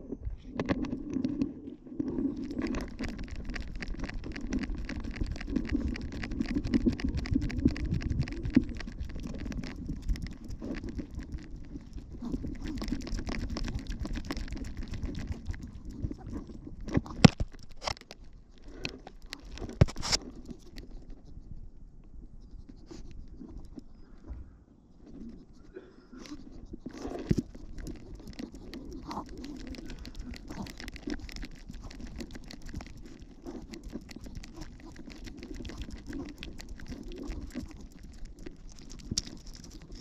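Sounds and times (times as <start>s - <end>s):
camera rubbing and rattling: 0.4s - 21.6s, 24.9s - 40.0s
rapid patter of dog movement: 2.0s - 21.6s, 26.2s - 40.0s.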